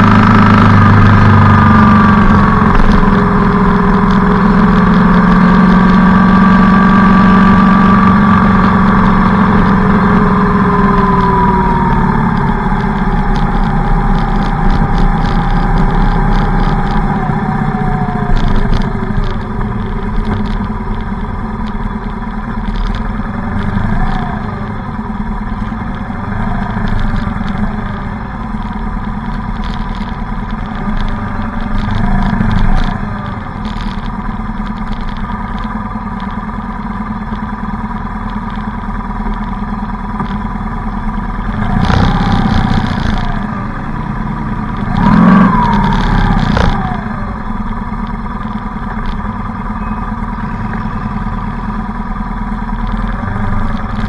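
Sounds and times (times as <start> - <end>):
motorcycle engine revving: 0.0 - 54.0
motorcycle engines idling: 7.4 - 54.0.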